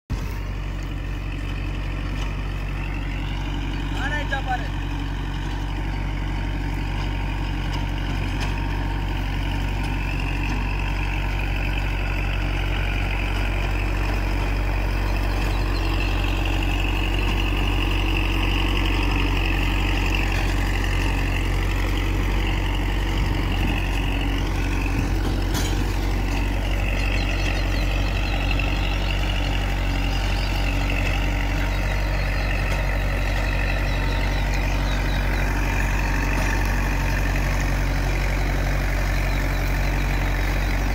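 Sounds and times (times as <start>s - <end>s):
rotary tiller through soil: 0.1s - 40.9s
tractor diesel engine running: 0.1s - 40.9s.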